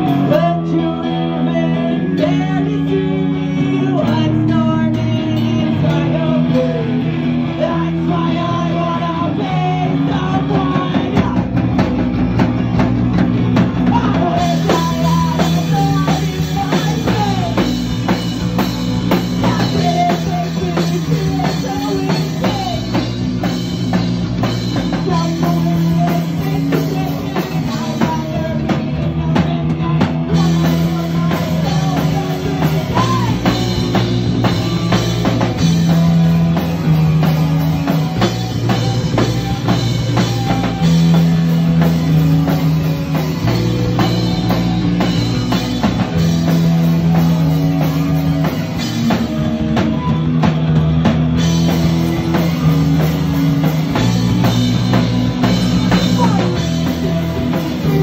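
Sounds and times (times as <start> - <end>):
distorted electric guitar: 0.0 - 58.0
drum kit beat: 0.0 - 58.0
electric bass: 0.0 - 58.0.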